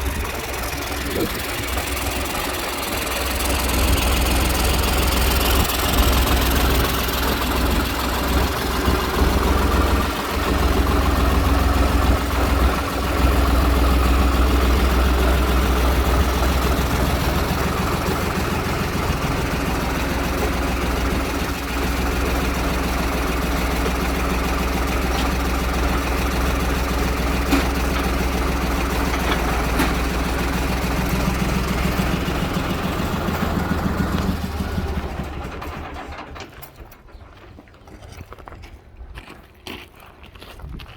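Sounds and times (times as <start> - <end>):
backhoe engine rumbling: 0.0 - 39.8.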